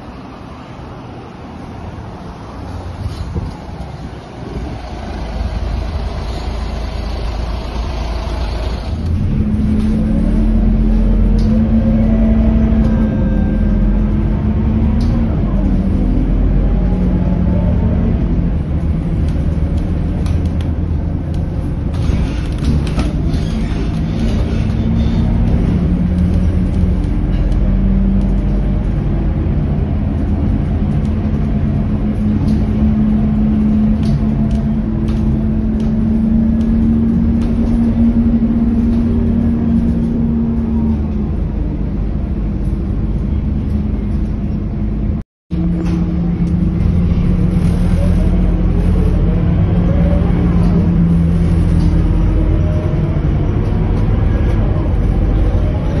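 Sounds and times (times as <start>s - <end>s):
bus diesel engine humming: 0.0s - 56.0s
road noise: 0.0s - 56.0s.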